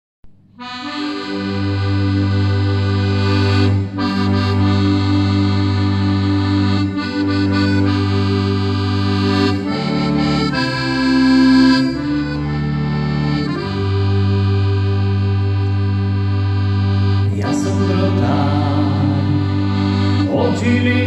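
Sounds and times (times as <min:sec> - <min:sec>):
piano accordion playing chords: 0:00.3 - 0:21.0.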